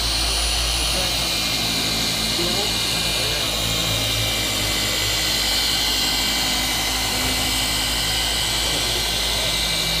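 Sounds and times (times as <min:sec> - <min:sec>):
polisher whining: 0:00.0 - 0:10.0.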